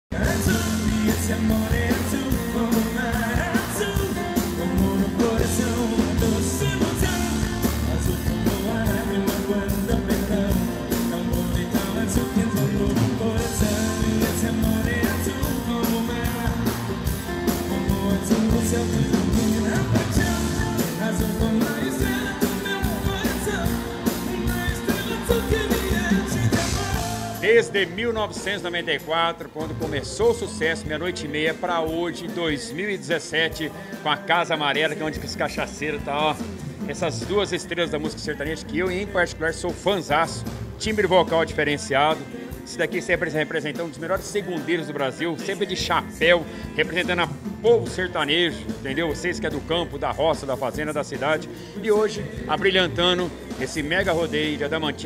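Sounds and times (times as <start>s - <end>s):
live band with steady beat: 0.1s - 55.0s
man singing: 0.1s - 55.0s.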